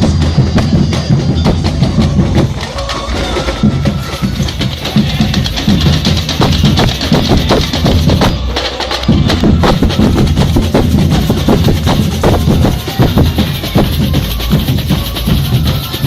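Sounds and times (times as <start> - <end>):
deep bass drums: 0.0 - 16.0
samba drum corps playing: 0.0 - 16.0.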